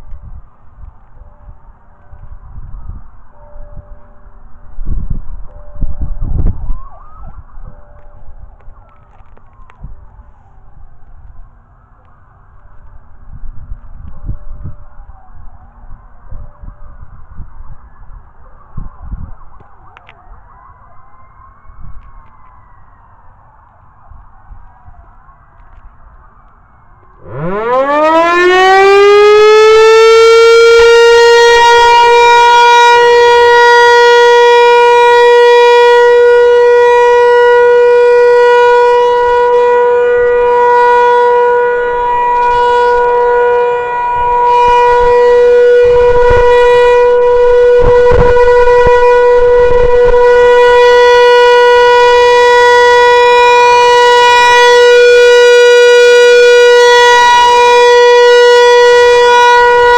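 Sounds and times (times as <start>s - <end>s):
rotating warning siren: 0.0s - 59.9s.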